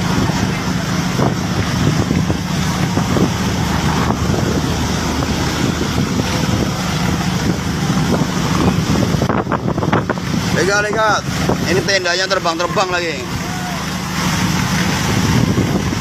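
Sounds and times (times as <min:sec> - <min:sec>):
boat engine droning: 0:00.0 - 0:16.0
wind buffeting microphone: 0:00.0 - 0:16.0.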